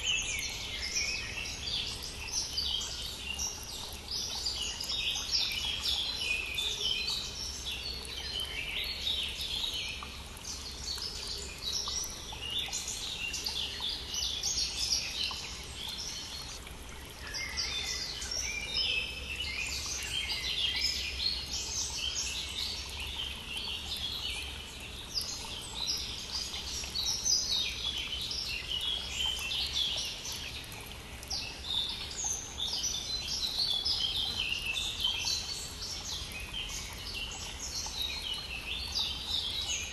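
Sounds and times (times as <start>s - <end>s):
flowing brook: 0.0s - 39.9s
songbirds singing: 0.0s - 39.9s.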